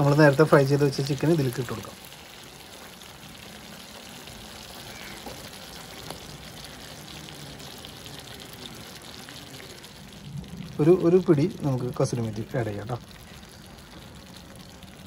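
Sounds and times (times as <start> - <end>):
sauce simmering in a pan: 0.0 - 15.0.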